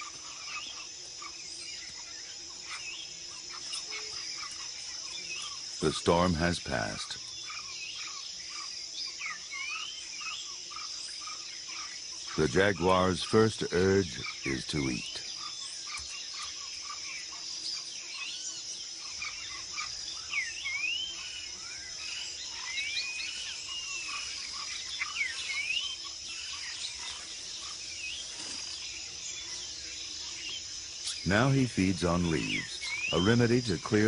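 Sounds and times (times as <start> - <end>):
bird chirps: 0.0 - 34.0
high-pitched insect drone: 0.0 - 34.0.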